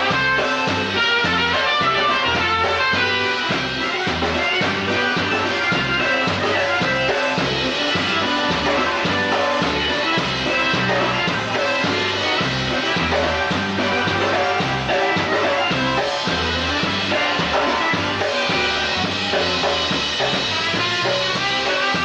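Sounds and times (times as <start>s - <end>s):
bass and drum beat: 0.0s - 22.0s
polka band playing: 0.0s - 22.0s.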